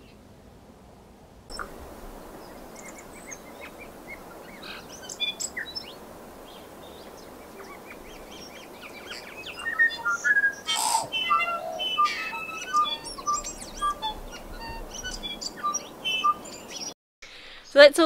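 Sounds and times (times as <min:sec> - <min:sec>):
faint steady hiss: 0:00.0 - 0:18.0
bird singing whistled notes: 0:01.5 - 0:17.0.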